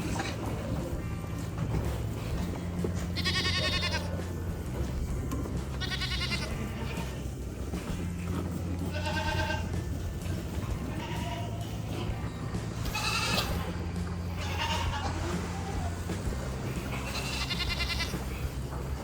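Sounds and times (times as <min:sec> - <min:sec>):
goats bleating: 0:00.0 - 0:19.0.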